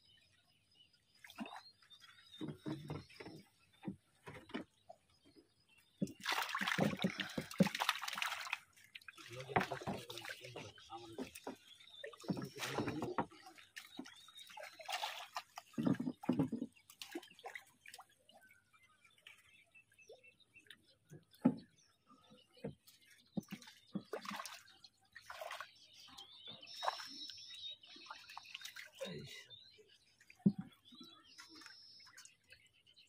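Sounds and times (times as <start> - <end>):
water splashing and dripping: 1.1 - 5.0, 5.9 - 21.8, 22.5 - 32.9.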